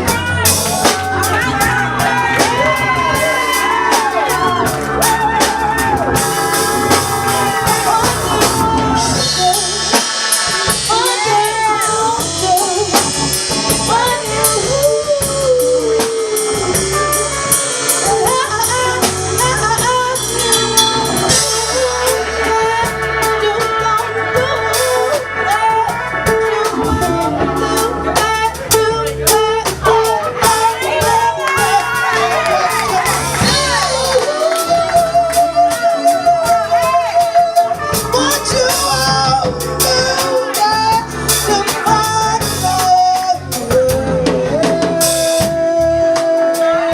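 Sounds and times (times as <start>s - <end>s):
bass: 0.0s - 46.9s
drum kit beat: 0.0s - 46.9s
lead melody line: 0.0s - 46.9s.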